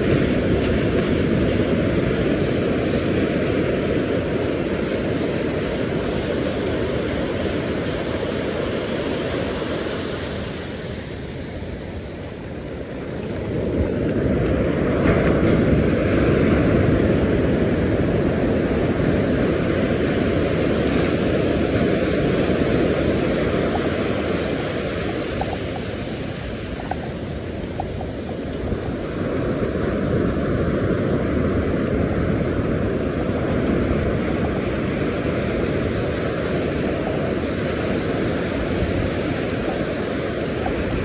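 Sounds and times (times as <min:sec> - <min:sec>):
surf on a beach: 0:00.0 - 0:41.0
wind: 0:00.0 - 0:41.0.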